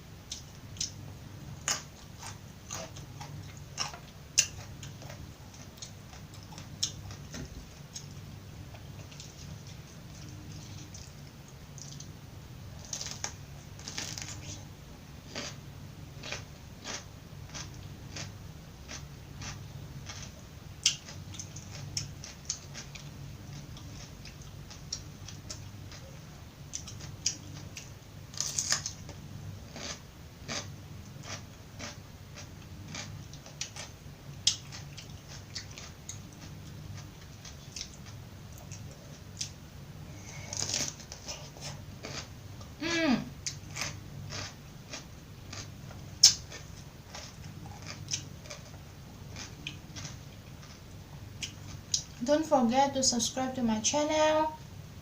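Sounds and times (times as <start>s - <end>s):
chewing crunchy raw vegetables: 1.6s - 14.6s, 15.2s - 42.8s, 43.4s - 52.2s.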